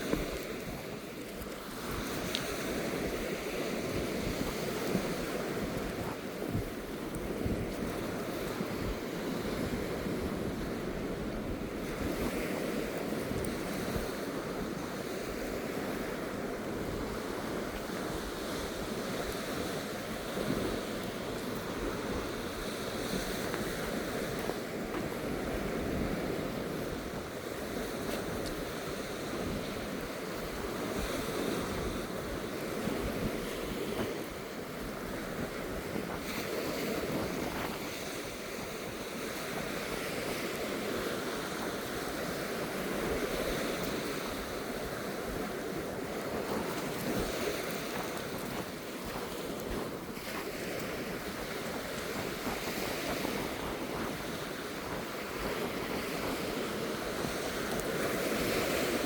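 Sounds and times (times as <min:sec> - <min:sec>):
waves breaking on a beach: 0:00.0 - 0:59.0
wind buffeting microphone: 0:00.0 - 0:59.0.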